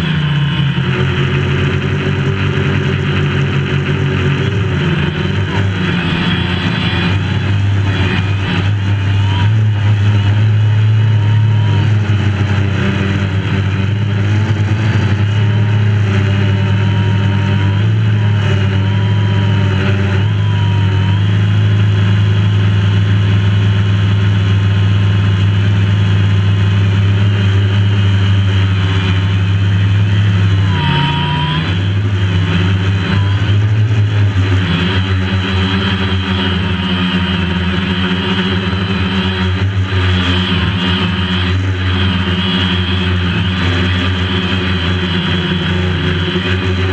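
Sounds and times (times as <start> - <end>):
drone motors humming: 0.0 - 46.9.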